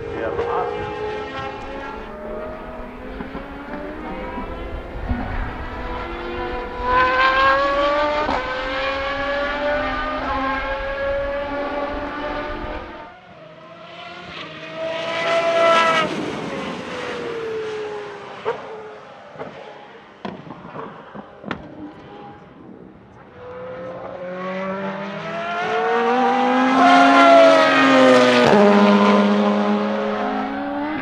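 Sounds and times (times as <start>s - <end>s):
racing car engine accelerating: 0.0s - 20.1s, 23.2s - 31.0s.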